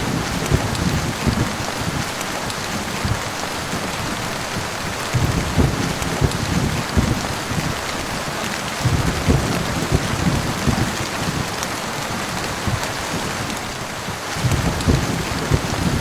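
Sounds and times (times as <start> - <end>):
heavy rain hissing: 0.0 - 16.0
low thunder rumbles: 0.0 - 16.0.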